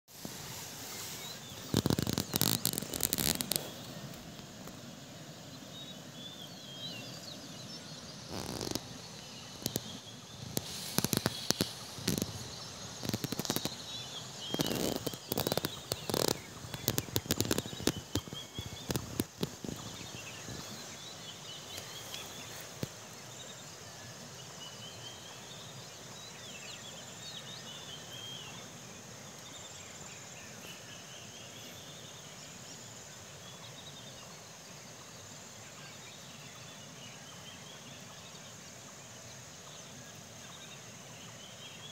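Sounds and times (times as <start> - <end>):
birds chirping: 0.1 - 41.9.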